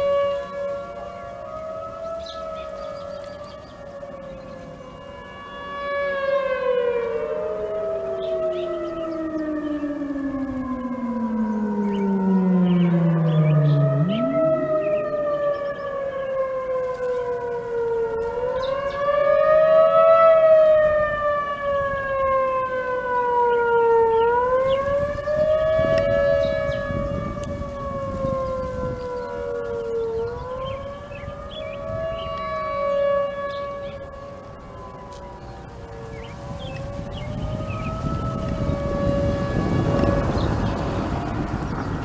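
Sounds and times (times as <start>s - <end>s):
tornado sirens wailing: 0.0s - 42.0s.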